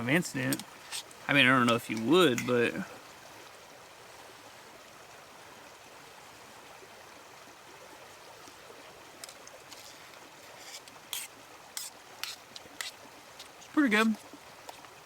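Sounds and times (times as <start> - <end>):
mountain creek flowing: 0.0 - 15.0.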